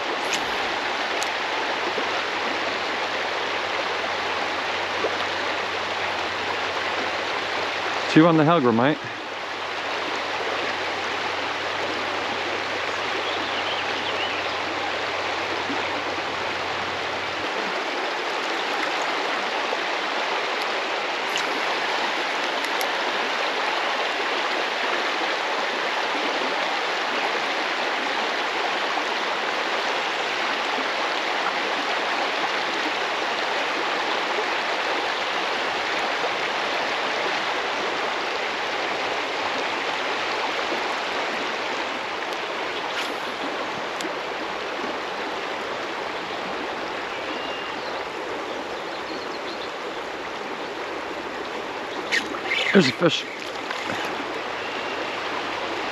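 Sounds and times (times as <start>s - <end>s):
water rushing over rocks: 0.0s - 49.0s, 49.7s - 55.9s.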